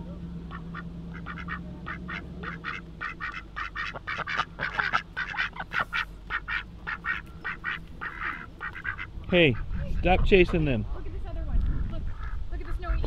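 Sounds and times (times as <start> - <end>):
ducks quacking: 0.2 - 13.0.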